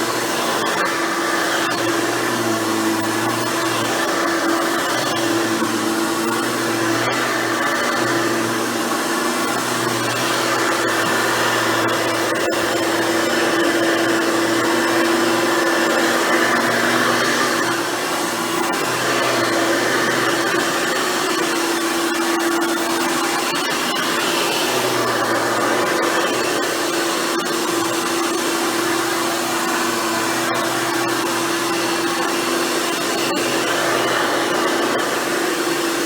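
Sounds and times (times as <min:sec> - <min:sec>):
upright vacuum cleaner running: 0:00.0 - 0:36.0.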